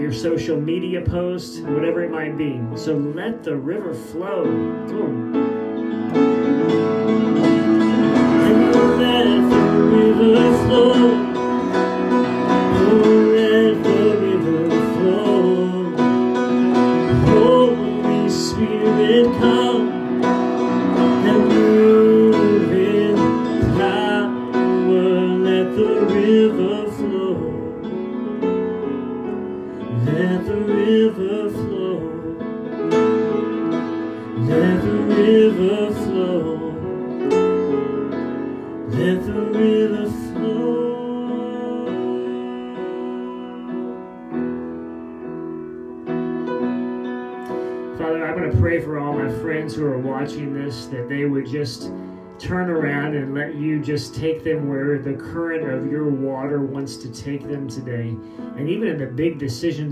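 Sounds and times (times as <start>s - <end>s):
man singing: 0.0s - 5.3s, 6.5s - 28.8s, 29.7s - 38.0s, 38.7s - 44.7s, 47.9s - 59.9s
piano chords: 0.0s - 59.9s.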